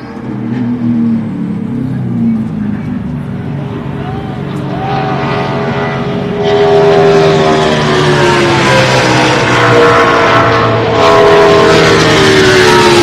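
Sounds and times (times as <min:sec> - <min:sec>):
race car engine passing by: 0:00.1 - 0:13.0.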